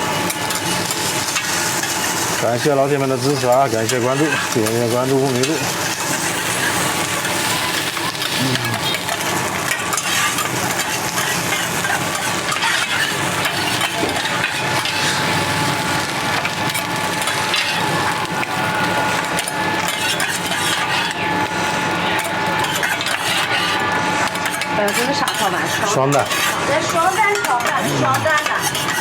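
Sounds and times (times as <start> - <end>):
metal spatulas scraping griddle: 0.0 - 15.5, 16.3 - 29.0
continuous sizzle: 0.0 - 29.0.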